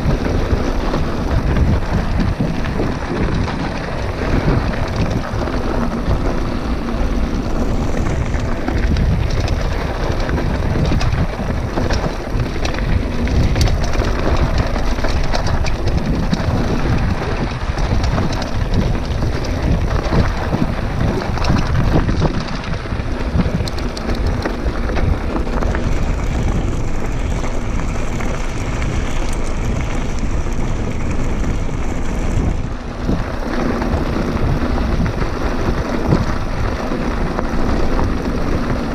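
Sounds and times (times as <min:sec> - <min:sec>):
bike rattling over dirt trail: 0:00.0 - 0:38.9
wind rushing over microphone: 0:00.0 - 0:38.9.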